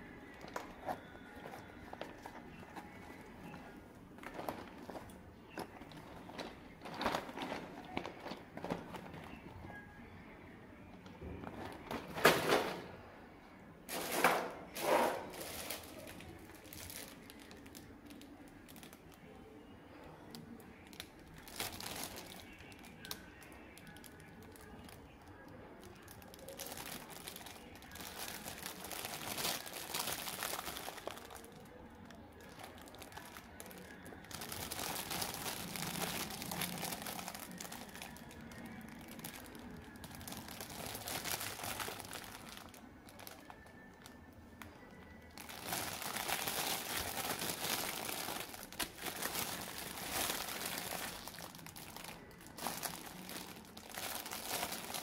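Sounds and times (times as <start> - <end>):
plastic wrapping crinkling: 0.0 - 9.8, 13.9 - 55.0.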